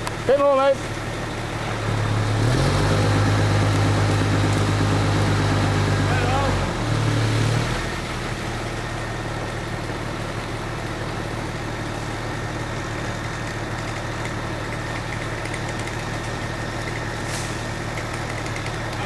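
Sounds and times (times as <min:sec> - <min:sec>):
crane engine idling: 0:00.0 - 0:19.0.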